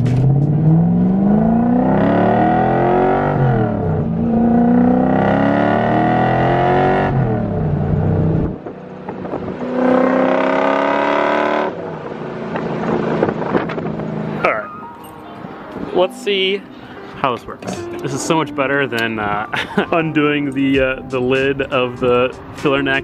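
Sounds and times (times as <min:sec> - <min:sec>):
truck engine accelerating: 0:00.0 - 0:23.0.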